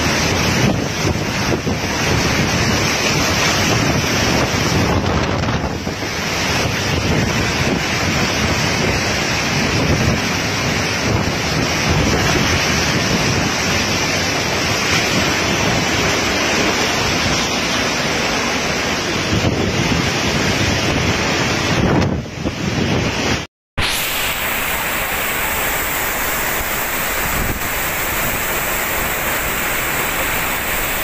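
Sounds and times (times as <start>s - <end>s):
driving rain: 0.0s - 31.0s
strong wind: 0.0s - 31.0s
wind buffeting microphone: 0.0s - 31.0s.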